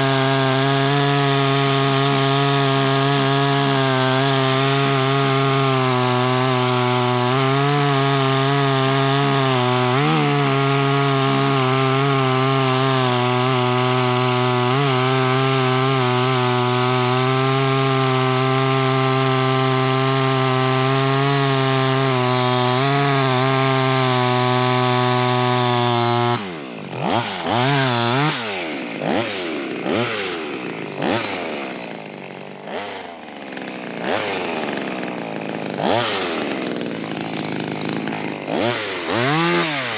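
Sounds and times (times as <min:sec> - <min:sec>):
chainsaw cutting through tree: 0:00.0 - 0:39.9.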